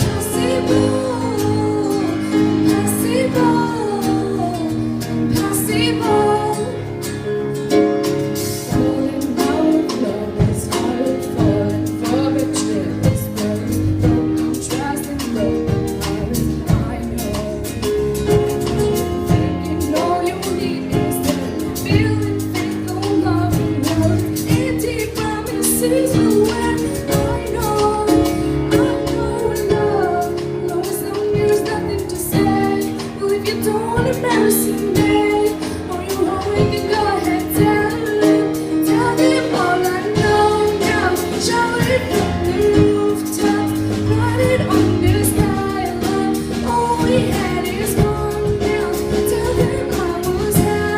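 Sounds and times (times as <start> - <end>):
woman singing: 0.0 - 7.3, 8.4 - 50.9
instrumental accompaniment with beat: 0.0 - 50.9.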